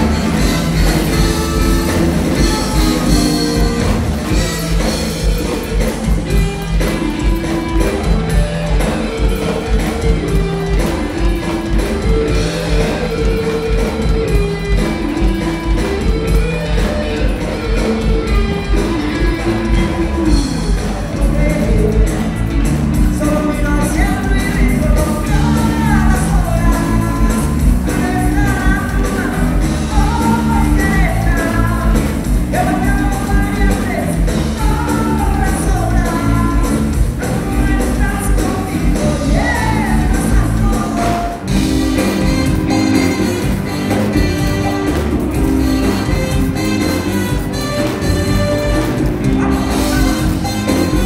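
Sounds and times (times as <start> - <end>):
bass: 0.0 - 51.0
electric guitar line: 0.0 - 51.0
funk-rock band playing: 0.0 - 51.0
person singing: 0.0 - 51.0.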